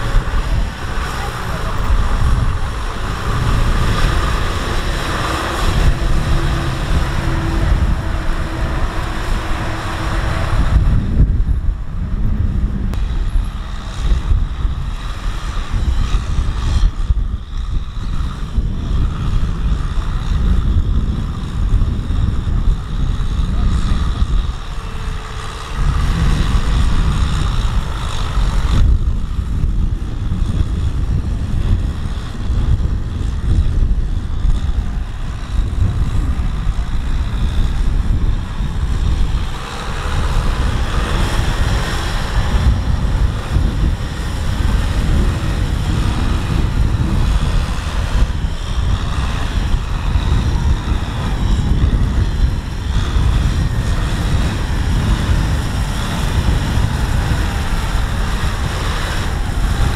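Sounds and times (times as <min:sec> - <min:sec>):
tractor churning through mud: 0:00.0 - 0:11.9, 0:12.9 - 0:59.9
tractor diesel engine running hard: 0:00.0 - 0:59.9
wind buffeting microphone: 0:00.0 - 0:59.9.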